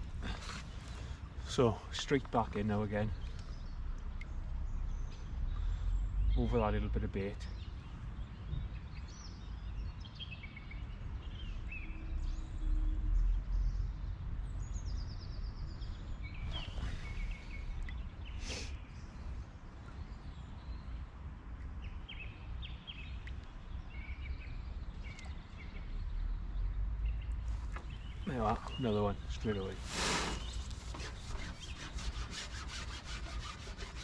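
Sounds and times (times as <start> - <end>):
small birds chirping: 0.0 - 12.7, 13.3 - 34.0.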